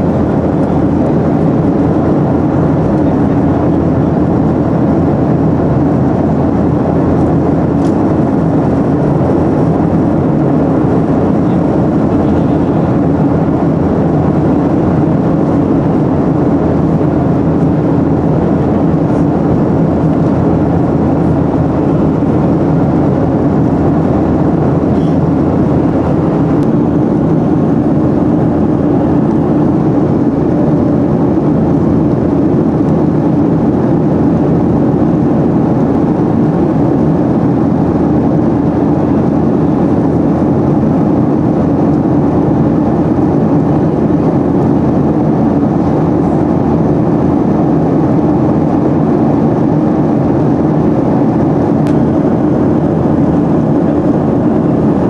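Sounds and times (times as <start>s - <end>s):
air rushing over fuselage: 0.0s - 55.0s
jet engines in flight: 0.0s - 55.0s.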